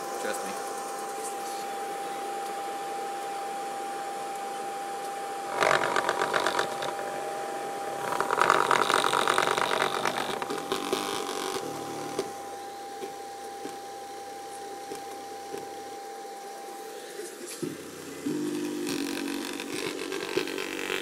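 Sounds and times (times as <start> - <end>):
speaker buzzing and rattling: 0.0 - 21.0
thin high whine: 0.0 - 21.0.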